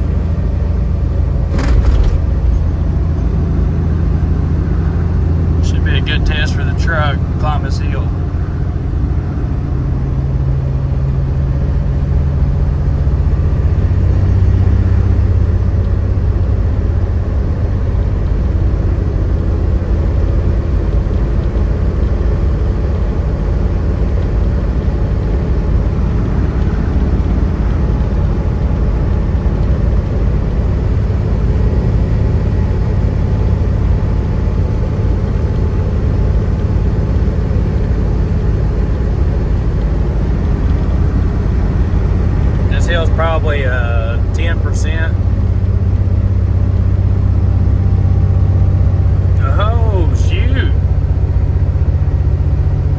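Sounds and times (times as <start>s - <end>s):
diesel truck engine pulling uphill: 0.0s - 52.9s.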